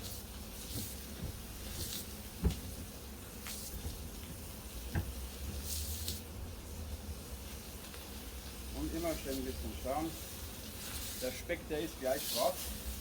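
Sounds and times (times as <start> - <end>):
food sizzling on iron plate: 0.0 - 13.0.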